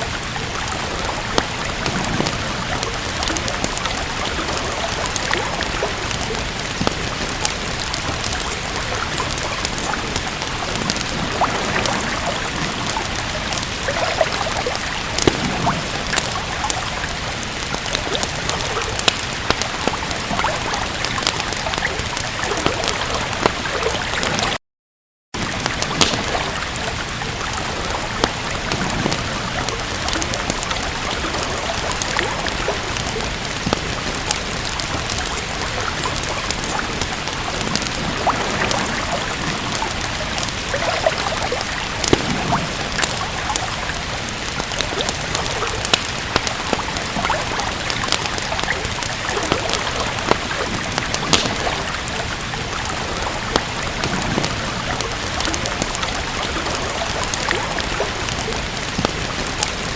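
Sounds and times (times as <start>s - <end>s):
rain hiss: 0.0s - 24.6s, 25.4s - 59.9s
wood fire crackling: 0.0s - 24.6s, 25.4s - 59.9s.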